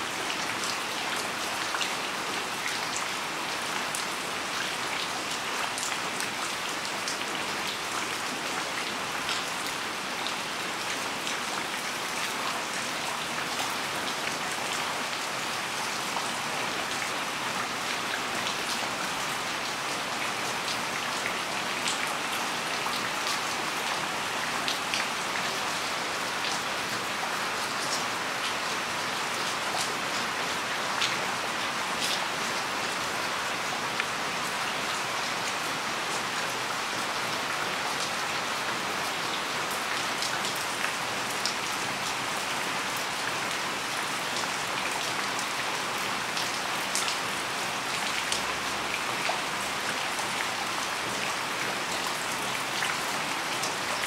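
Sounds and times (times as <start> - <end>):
steady rain on plants: 0.0 - 54.0.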